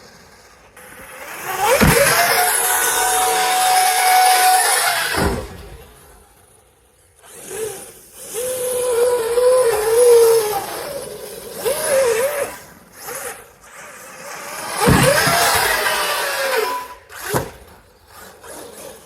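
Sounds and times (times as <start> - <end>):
electric motor whining: 0.7 - 6.3, 7.2 - 19.0.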